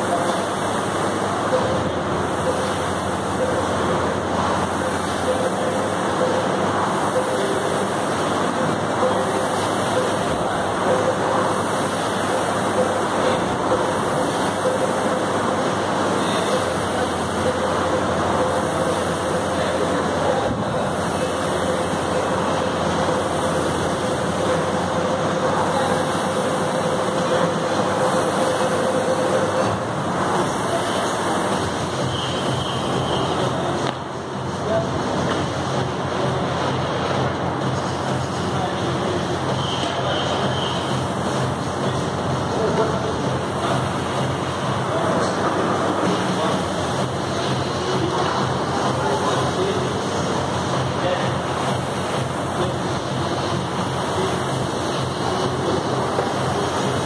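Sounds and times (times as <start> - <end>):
rowing machine fan whooshing: 0.0 - 57.0.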